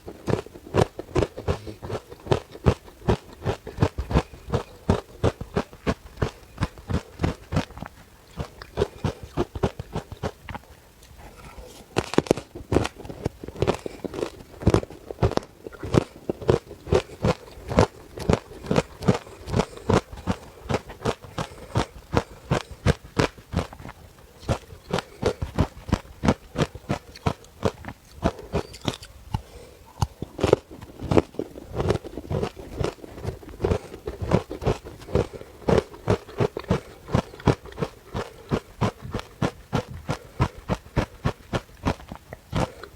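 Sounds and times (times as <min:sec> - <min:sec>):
person chewing crunchy ice: 0:00.0 - 0:42.9.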